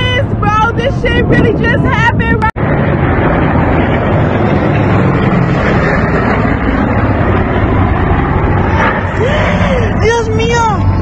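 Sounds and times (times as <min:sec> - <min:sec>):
piston aircraft engines droning: 0:00.0 - 0:11.0.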